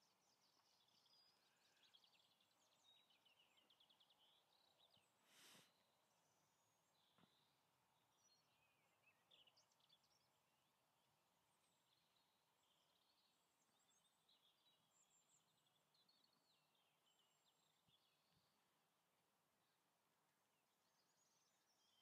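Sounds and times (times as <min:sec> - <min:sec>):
faint birdsong chirps: 0:00.0 - 0:22.0.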